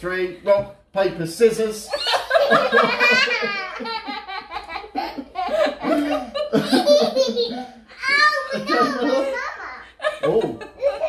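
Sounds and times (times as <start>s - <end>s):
people laughing hard: 1.9s - 11.0s.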